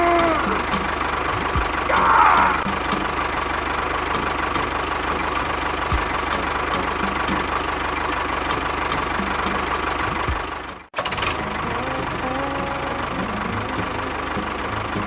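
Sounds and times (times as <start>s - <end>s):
engine knocking: 0.0s - 15.0s
small engine running: 0.0s - 15.0s.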